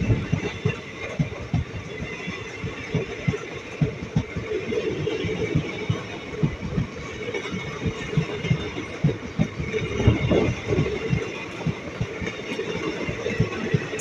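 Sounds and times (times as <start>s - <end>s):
train rumble: 0.0s - 14.0s
train wheels clattering over joints: 0.0s - 14.0s.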